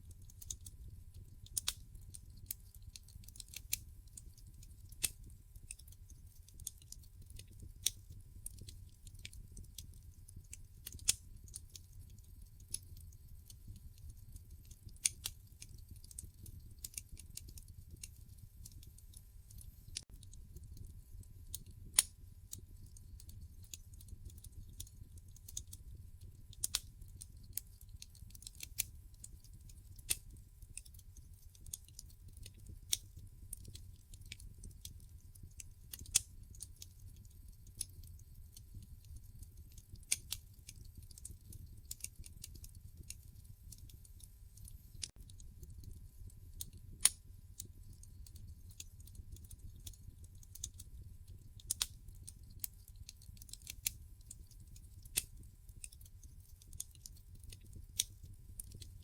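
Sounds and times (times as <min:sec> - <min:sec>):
low rumble of fire: 0:00.0 - 0:59.0
wood fire crackling and popping: 0:00.0 - 0:59.0.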